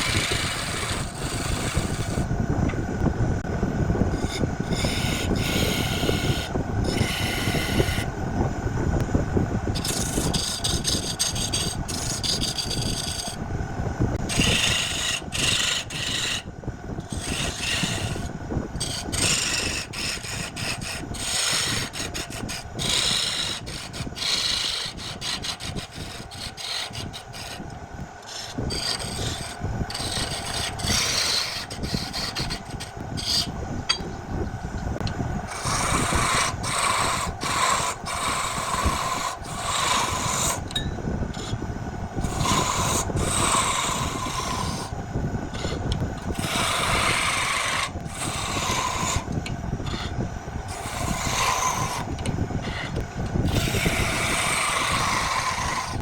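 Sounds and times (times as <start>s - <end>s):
lathe tool scraping spinning wood: 0.0s - 2.8s, 3.4s - 13.5s, 14.1s - 56.0s.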